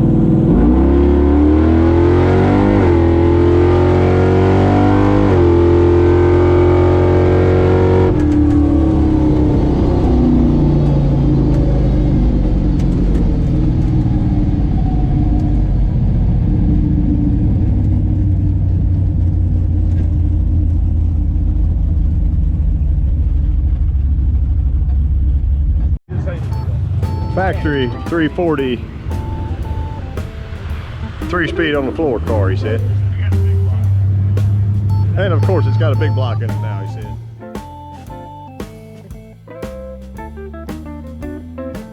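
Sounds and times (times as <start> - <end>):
drag racing car engine: 0.0 - 40.8.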